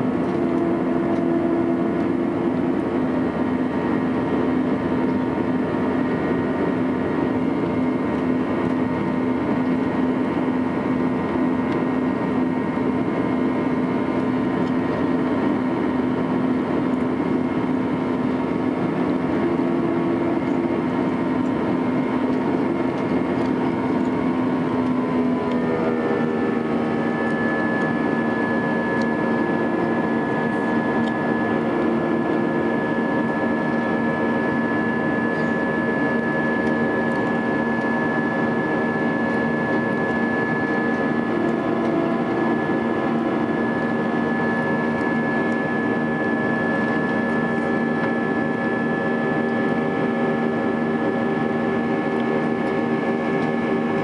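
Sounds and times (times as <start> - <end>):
jet engines droning in cabin: 0.0 - 54.0.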